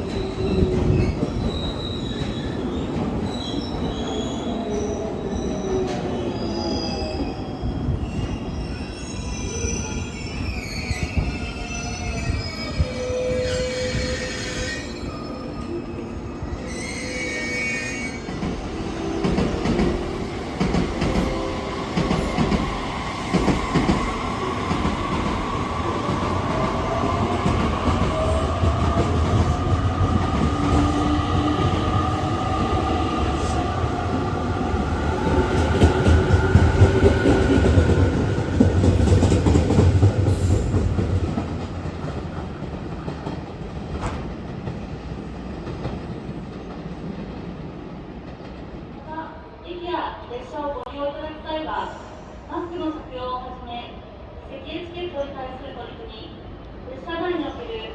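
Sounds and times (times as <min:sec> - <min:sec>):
train wheels rumbling on rails: 0:00.0 - 0:14.9, 0:16.6 - 0:49.1.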